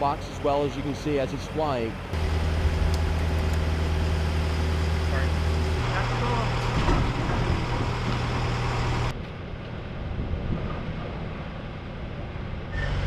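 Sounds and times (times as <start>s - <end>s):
heavy engine running at low revs: 0.0s - 13.0s
low rumbling: 2.0s - 13.0s.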